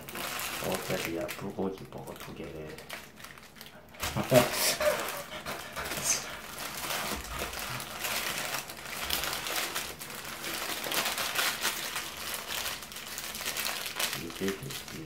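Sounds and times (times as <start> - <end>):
paper wrapper crinkling: 0.0 - 15.0.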